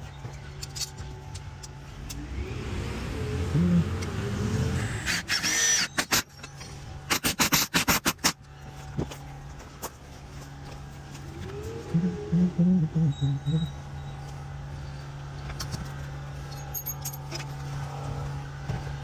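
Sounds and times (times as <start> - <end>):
vehicle engine rumble: 0.0 - 5.1, 8.2 - 19.0.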